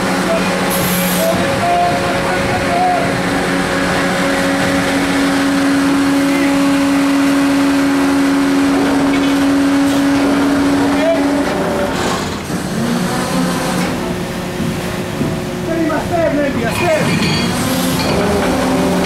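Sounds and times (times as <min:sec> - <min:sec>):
machinery drone: 0:00.0 - 0:14.6, 0:17.0 - 0:19.0.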